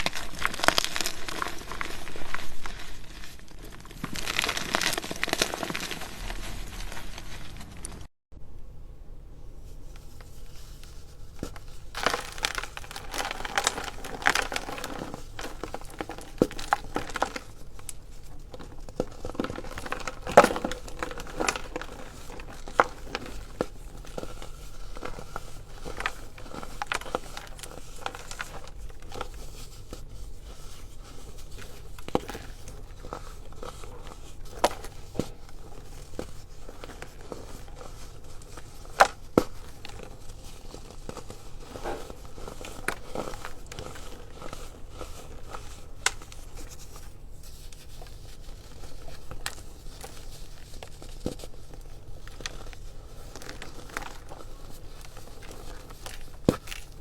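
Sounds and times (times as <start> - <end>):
baking soda crunching: 0.0 - 8.1, 9.7 - 57.0.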